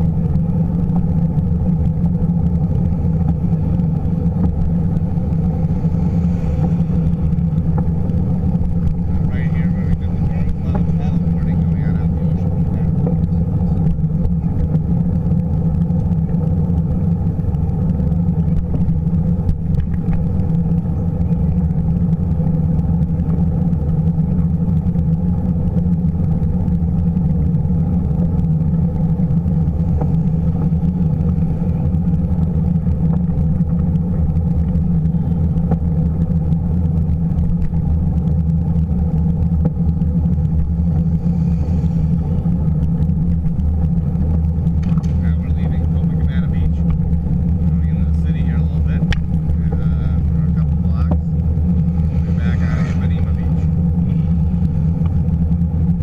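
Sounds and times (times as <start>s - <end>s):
bicycle road vibration: 0.0s - 56.0s
low rumble of wind: 0.0s - 56.0s.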